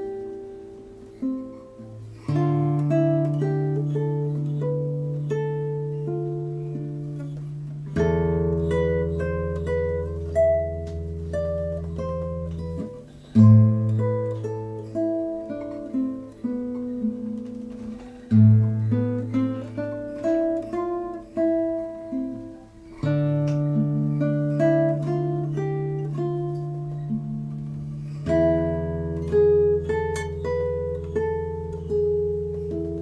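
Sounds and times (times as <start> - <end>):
acoustic guitar plucked melody: 0.0 - 33.0.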